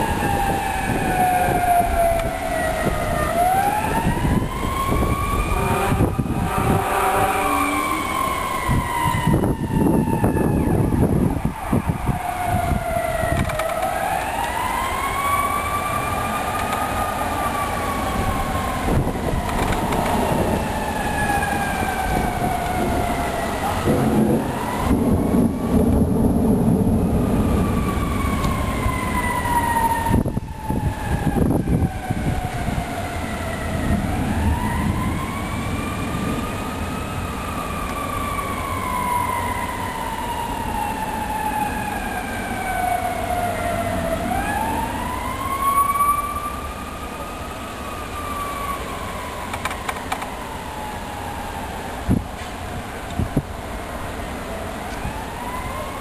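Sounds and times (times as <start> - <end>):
siren wailing: 0.0 - 56.0.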